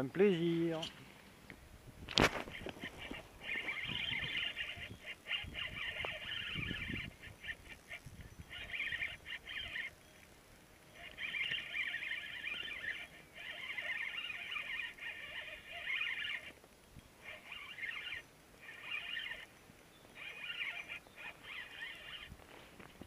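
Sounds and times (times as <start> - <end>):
fishing reel whirring: 2.1 - 23.0.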